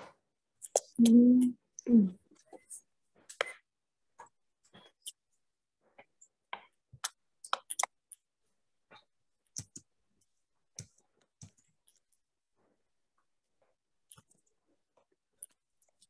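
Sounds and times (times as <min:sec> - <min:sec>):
faint clicks and taps: 0:00.0 - 0:05.2, 0:05.8 - 0:16.0.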